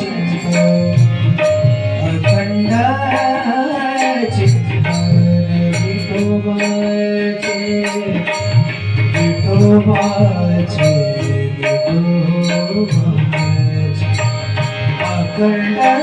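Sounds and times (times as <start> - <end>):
person singing: 0.0 - 16.0
tabla playing: 0.0 - 16.0.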